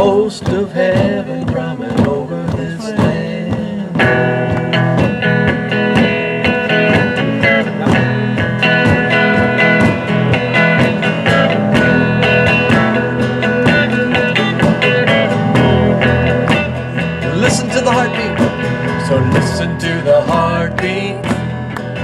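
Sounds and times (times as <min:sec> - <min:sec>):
guitar: 0:00.0 - 0:22.0
large drum beating: 0:00.0 - 0:22.0
worship band playing: 0:00.0 - 0:22.0.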